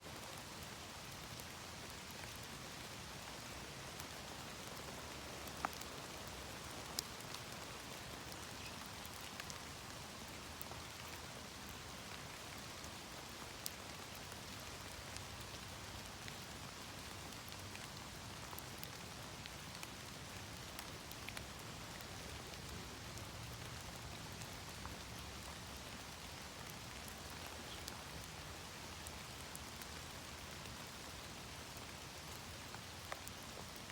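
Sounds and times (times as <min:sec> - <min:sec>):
rain drops pattering into puddles: 0:00.0 - 0:33.9.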